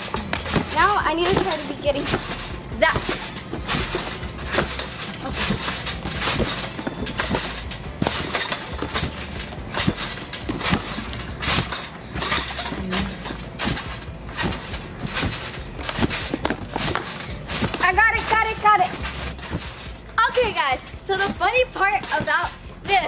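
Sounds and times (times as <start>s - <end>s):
thuds of jumping on a trampoline: 0.0s - 23.0s.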